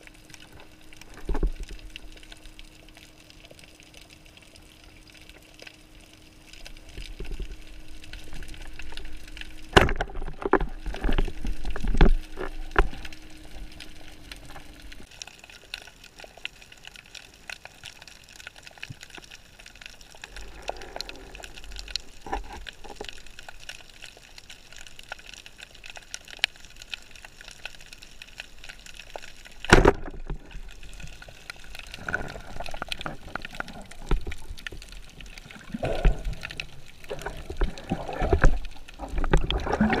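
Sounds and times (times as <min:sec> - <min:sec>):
faint hum: 0:00.0 - 0:40.0
underwater water noise: 0:00.0 - 0:40.0.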